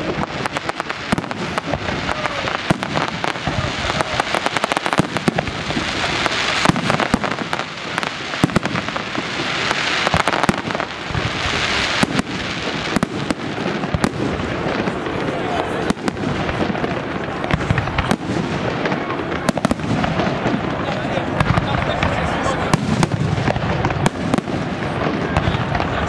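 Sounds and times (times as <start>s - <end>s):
firework crackling and pops: 0.0s - 26.0s
firework shells bursting: 0.0s - 26.0s
fireworks hissing: 0.0s - 26.0s.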